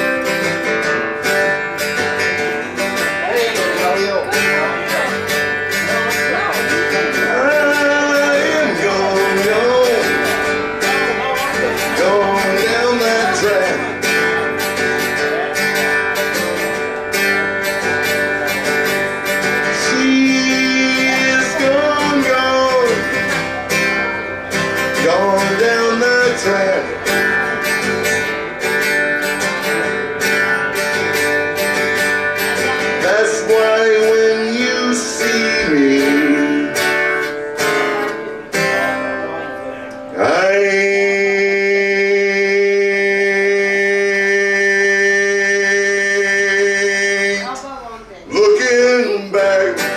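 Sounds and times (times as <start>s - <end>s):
live band playing: 0.0s - 41.4s
strummed guitar: 0.0s - 49.9s.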